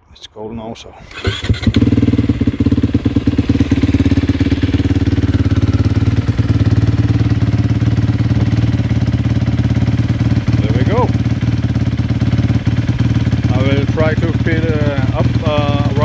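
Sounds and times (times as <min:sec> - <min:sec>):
motorcycle engine cranking and idling: 0:01.0 - 0:16.0.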